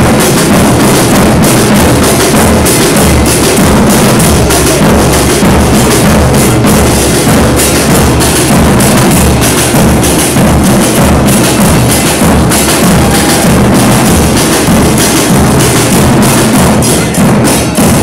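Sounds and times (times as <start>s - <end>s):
bass drums pounding fast beat: 0.0s - 18.0s
cymbals crashing: 0.0s - 18.0s.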